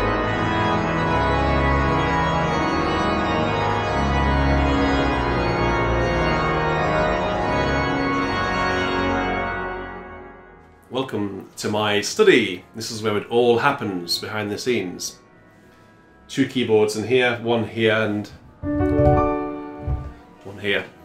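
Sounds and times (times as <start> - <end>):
pipe organ music: 0.0 - 21.0.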